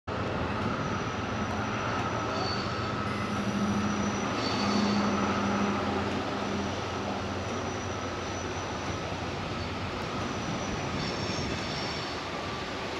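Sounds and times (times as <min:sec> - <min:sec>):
distant diesel locomotive hum: 0:00.1 - 0:12.9.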